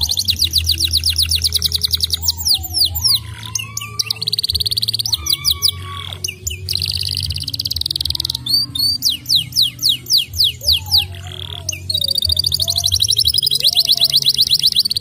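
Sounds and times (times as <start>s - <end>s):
canary buzzing trill: 0.0s - 15.0s
canary whistled notes: 0.0s - 15.0s.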